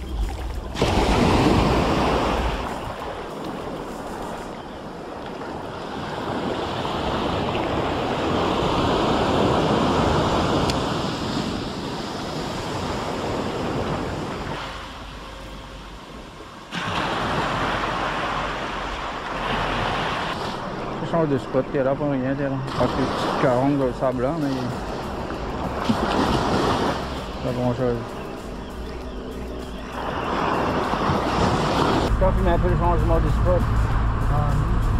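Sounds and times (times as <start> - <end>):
sea waves breaking on shore: 0.0 - 34.7.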